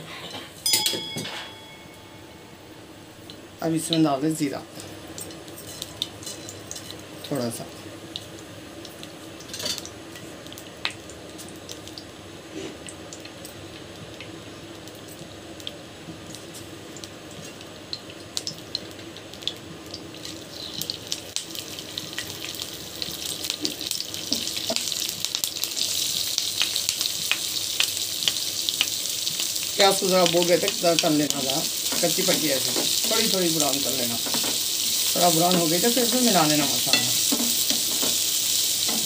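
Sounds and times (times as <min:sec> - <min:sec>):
onions sizzling in oil: 0:01.7 - 0:39.0.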